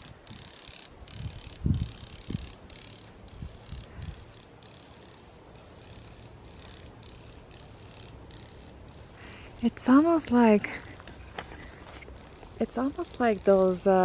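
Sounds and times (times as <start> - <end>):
insect zapping buzz: 0.0 - 14.0.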